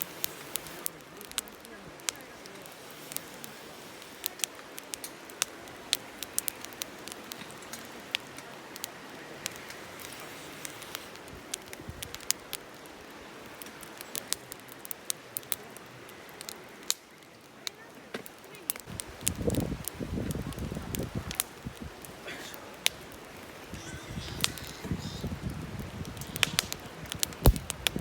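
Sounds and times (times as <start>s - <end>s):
campfire crackling: 0.0s - 28.0s
low hiss of fire: 0.0s - 28.0s.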